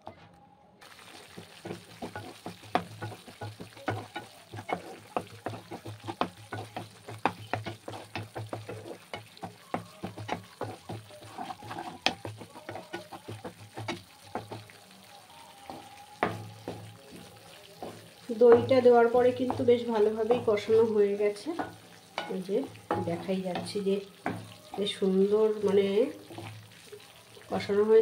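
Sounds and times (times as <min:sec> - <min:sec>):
oil sizzling: 0:00.8 - 0:28.0
spatula scraping and knocking pan: 0:00.9 - 0:14.9, 0:15.6 - 0:27.2.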